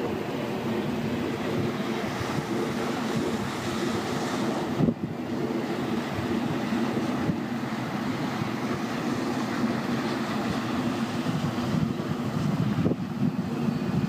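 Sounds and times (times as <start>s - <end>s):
light surf washing: 0.0s - 14.0s
wind buffeting microphone: 0.0s - 14.0s.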